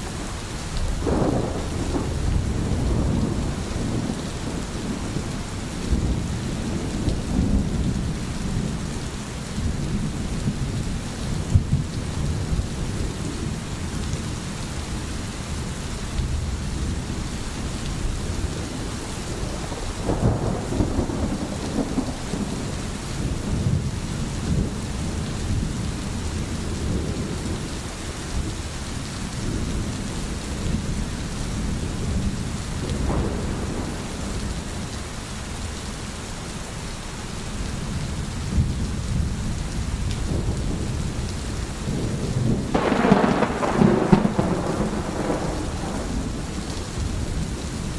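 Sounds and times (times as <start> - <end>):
thunder rumbling: 0.0 - 13.3, 18.0 - 27.7, 29.4 - 35.1, 37.9 - 47.9
steady rain: 0.0 - 47.9.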